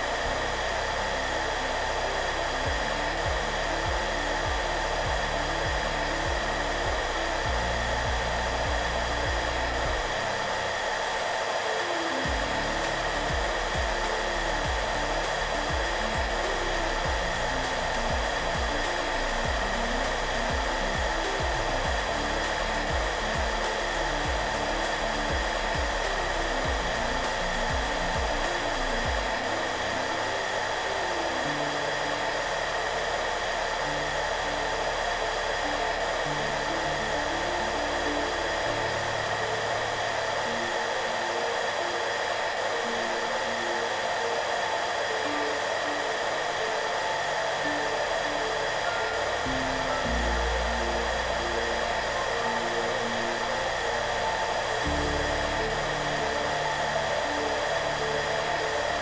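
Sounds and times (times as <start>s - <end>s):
hairdryer running: 0.0s - 59.0s
soft background music: 0.0s - 59.0s.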